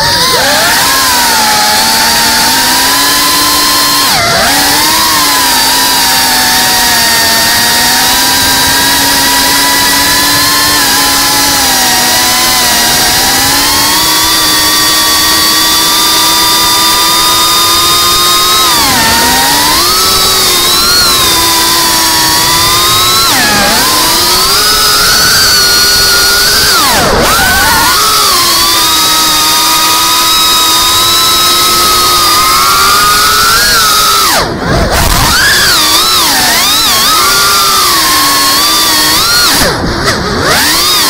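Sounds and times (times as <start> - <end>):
drone motors and propellers whining: 0.0 - 41.0.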